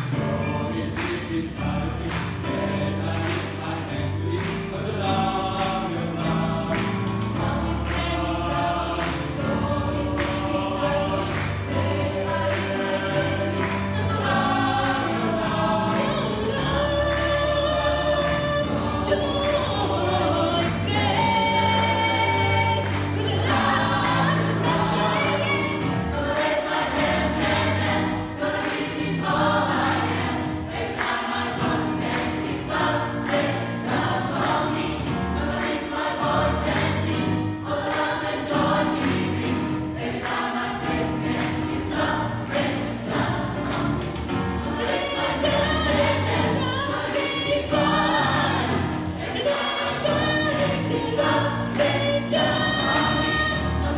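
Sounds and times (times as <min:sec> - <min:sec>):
gospel choir singing: 0:00.0 - 0:53.9.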